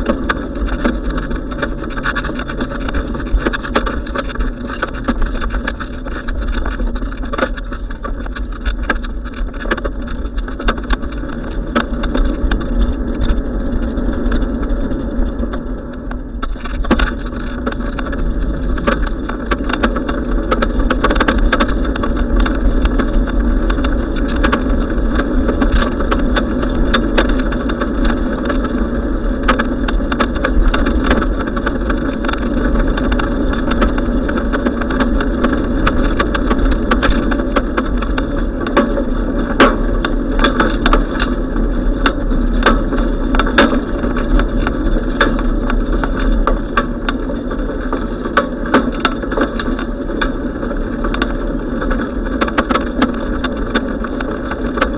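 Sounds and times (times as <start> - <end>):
bicycle clicks and rattles: 0.0 - 54.9
wind and road noise rumble: 0.0 - 54.9.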